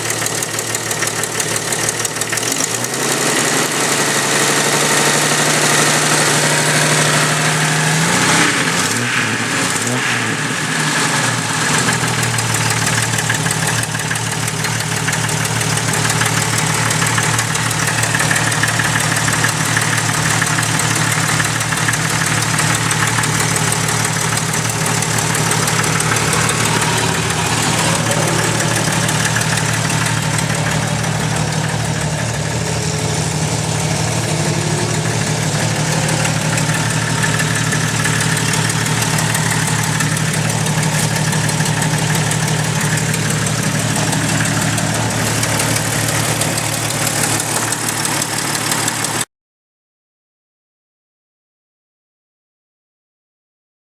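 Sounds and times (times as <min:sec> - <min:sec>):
car engine running: 0:00.0 - 0:49.2
engine ticking: 0:00.0 - 0:49.2.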